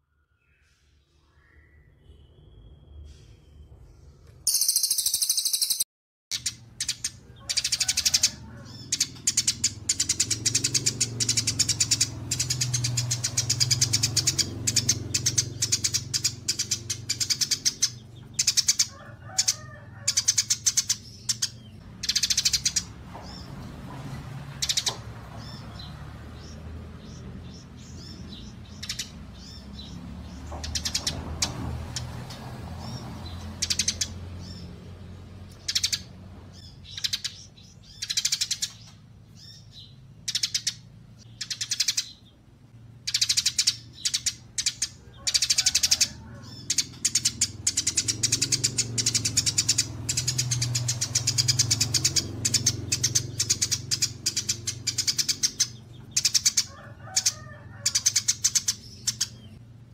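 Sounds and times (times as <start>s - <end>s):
songbirds chattering trills: 4.5s - 59.9s.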